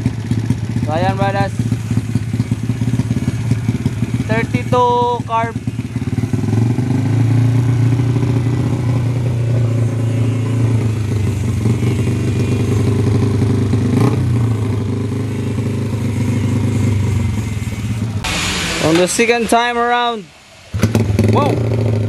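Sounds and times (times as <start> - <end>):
motorcycle engine idling: 0.0 - 18.4, 20.7 - 22.0.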